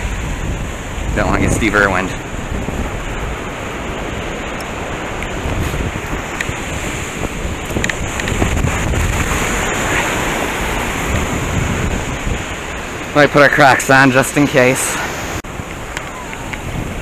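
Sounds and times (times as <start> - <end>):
wind buffeting microphone: 0.0 - 13.2, 14.6 - 17.0
surf breaking on beach: 0.0 - 17.0.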